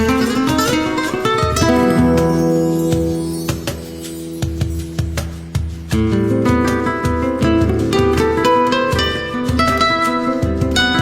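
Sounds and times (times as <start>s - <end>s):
flamenco-like acoustic guitar: 0.0s - 11.0s.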